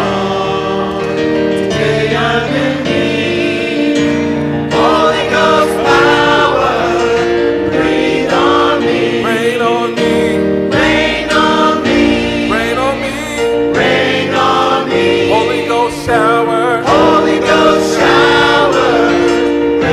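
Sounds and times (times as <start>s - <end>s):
gospel choir singing: 0.0s - 19.9s.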